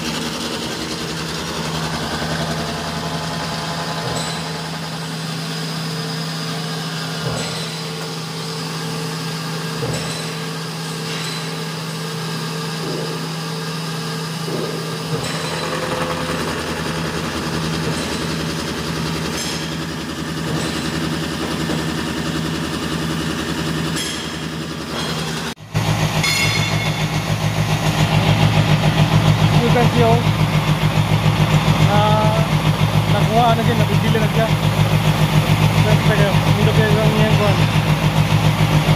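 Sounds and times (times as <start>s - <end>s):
beveling machine humming: 0.0s - 38.9s.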